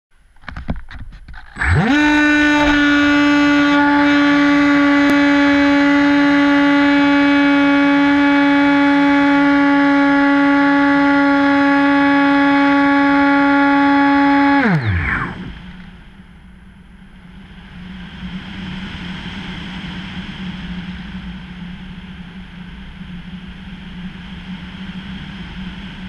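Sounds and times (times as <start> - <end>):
electric motor propeller whine: 1.3 - 26.0.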